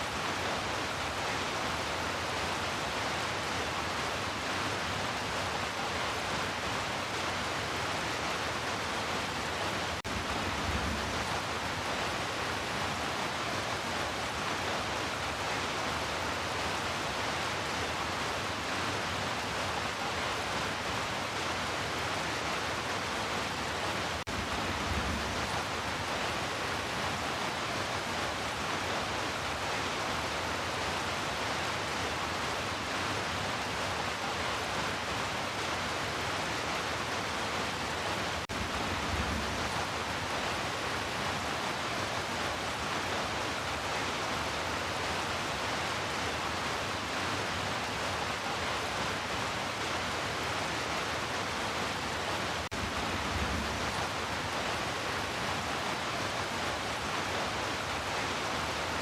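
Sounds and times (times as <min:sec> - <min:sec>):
heavy rainfall: 0:00.0 - 0:59.0.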